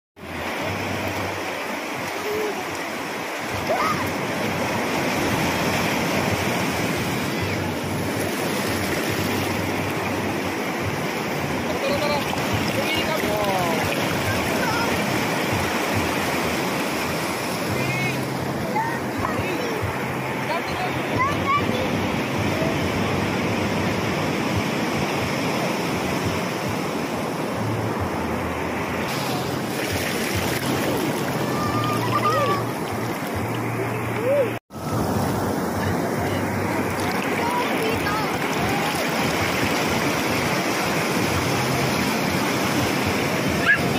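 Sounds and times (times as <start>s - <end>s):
ocean surf breaking: 0.2s - 43.9s.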